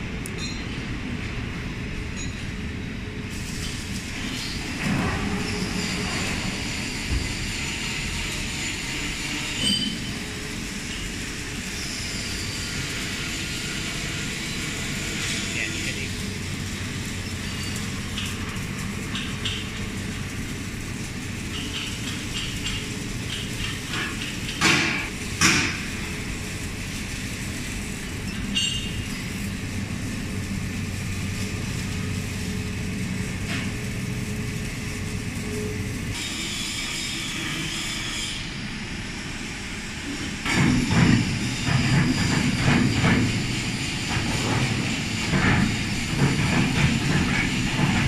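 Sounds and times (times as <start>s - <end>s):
industrial machinery drone: 0.0s - 48.0s.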